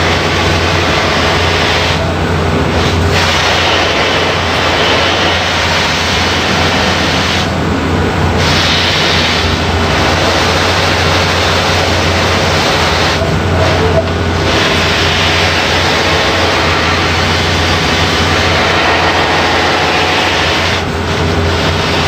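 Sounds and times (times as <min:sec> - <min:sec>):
buffing wheel rushing hiss: 0:00.0 - 0:07.6, 0:08.3 - 0:22.0
low motor hum: 0:00.0 - 0:22.0.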